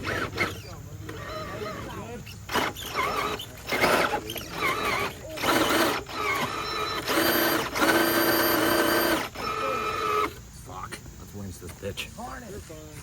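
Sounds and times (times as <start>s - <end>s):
electric motor whining: 0.0s - 10.5s.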